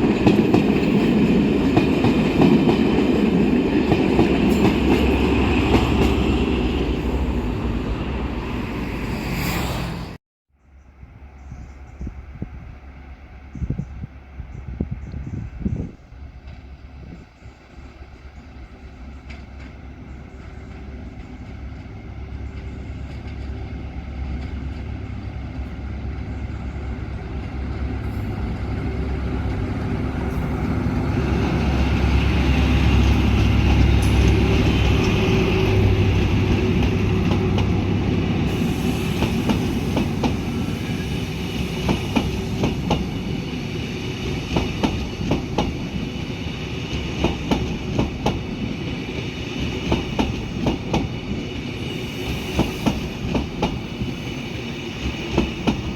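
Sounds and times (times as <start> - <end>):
train rumble passing: 0.0 - 55.9.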